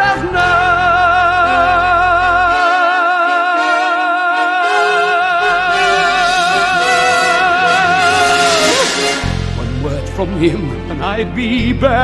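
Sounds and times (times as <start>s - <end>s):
person singing long note with vibrato: 0.0s - 9.9s
instrumental accompaniment: 0.3s - 11.7s.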